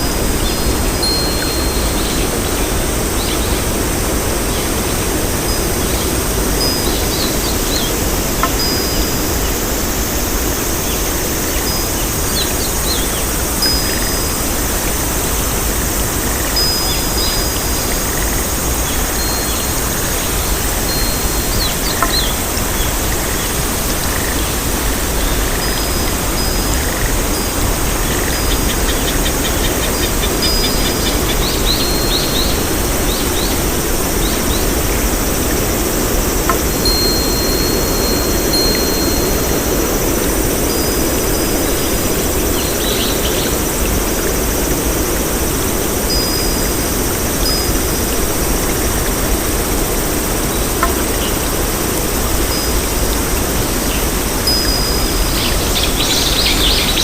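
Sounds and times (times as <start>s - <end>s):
steady rushing hiss: 0.0s - 57.0s.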